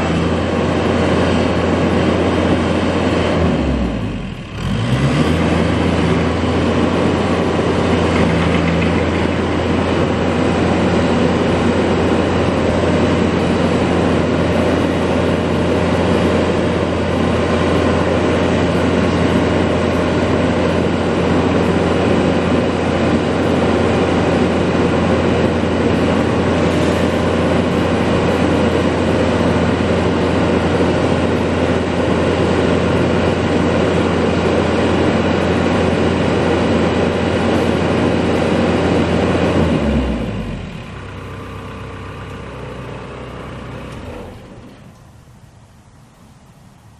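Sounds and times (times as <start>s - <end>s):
excavator diesel engine running: 0.0s - 45.8s.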